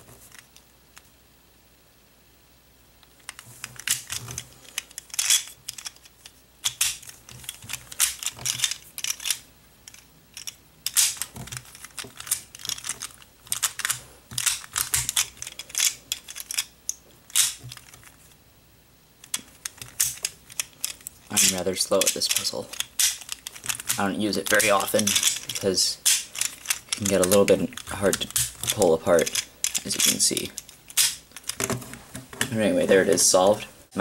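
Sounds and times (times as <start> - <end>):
plastic puzzle pieces clicking: 3.0 - 18.1, 19.2 - 31.8.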